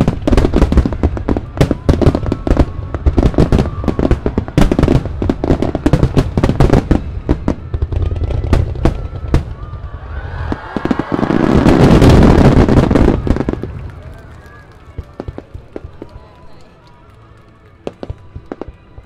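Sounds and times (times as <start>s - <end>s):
fireworks bursting: 0.0s - 16.4s
fireworks crackle: 0.0s - 19.0s.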